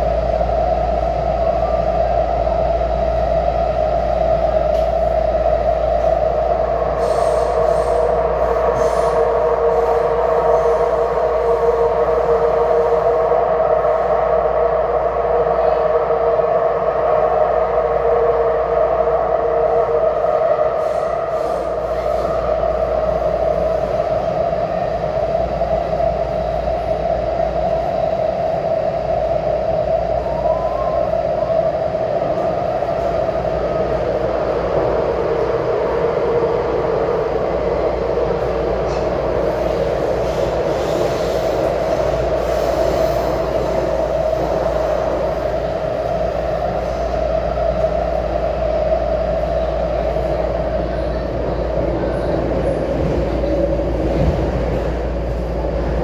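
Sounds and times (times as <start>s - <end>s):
metro train running noise: 0.0s - 56.0s.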